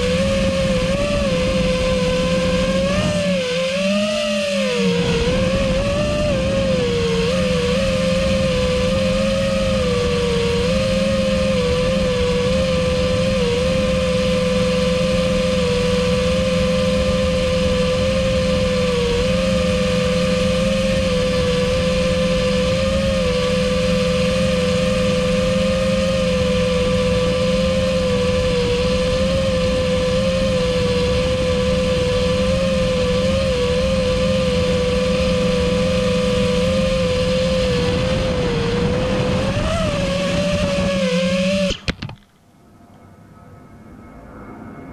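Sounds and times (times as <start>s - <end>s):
drone propeller whine: 0.0s - 44.9s.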